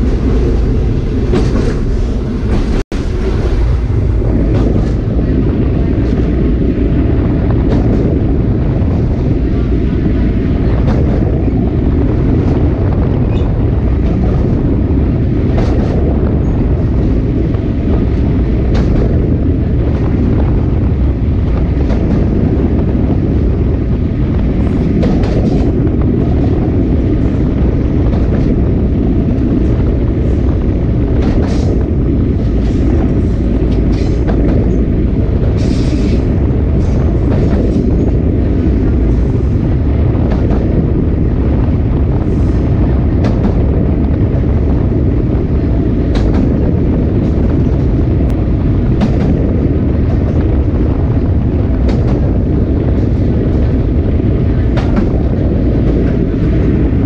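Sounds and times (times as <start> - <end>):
train wheel and rail rumble: 0.0 - 57.0.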